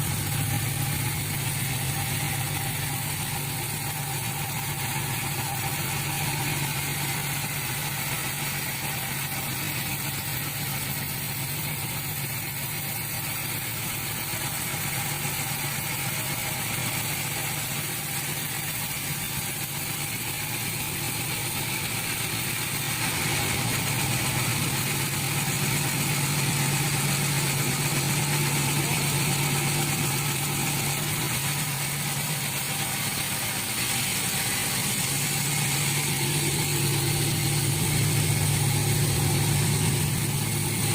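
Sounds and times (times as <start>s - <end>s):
sawmill machinery humming and hissing: 0.0s - 40.9s.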